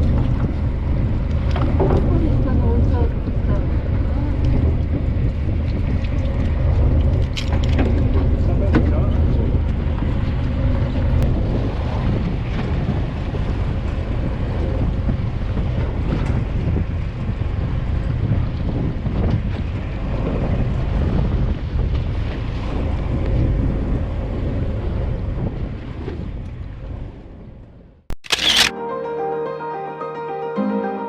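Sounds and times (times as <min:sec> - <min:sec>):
boat engine running: 0:00.0 - 0:26.9
wind buffeting microphone: 0:00.0 - 0:28.0.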